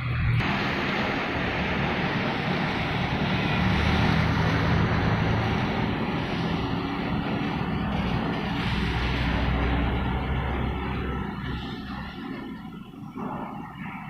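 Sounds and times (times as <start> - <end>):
heavy rain and wind: 0.0 - 14.0
low engine hum: 0.0 - 14.0.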